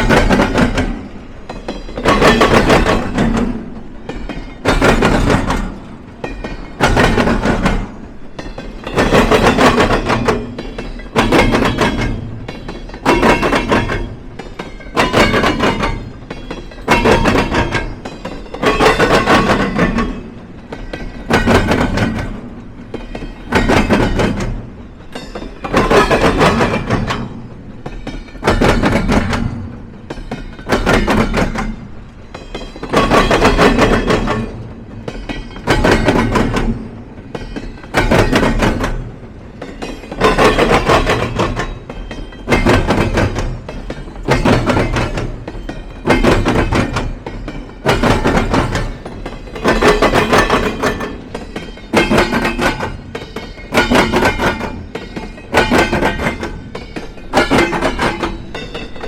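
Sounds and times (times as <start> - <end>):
train wheels banging over crossing: 0.0 - 59.0.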